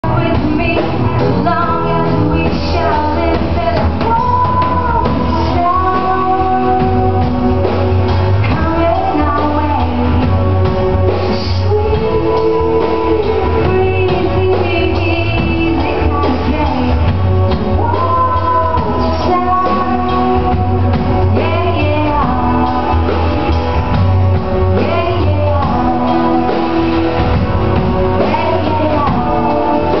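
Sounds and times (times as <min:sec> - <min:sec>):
live band playing: 0:00.0 - 0:30.0
woman singing: 0:00.0 - 0:30.0.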